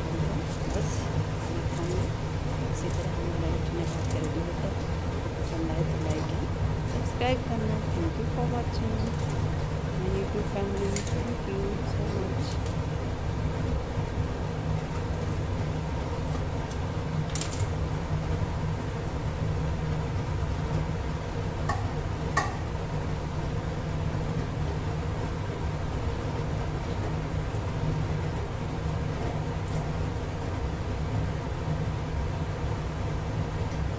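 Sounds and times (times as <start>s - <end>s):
low rumble of kitchen machinery: 0.0s - 33.9s.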